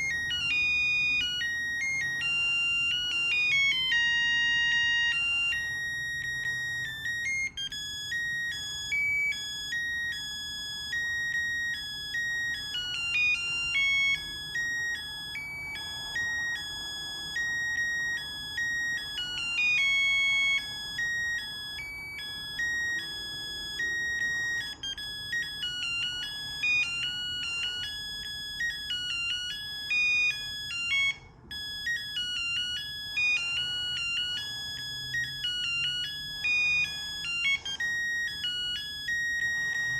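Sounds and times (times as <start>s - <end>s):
phone melody ringtone beeps: 0.0s - 39.9s.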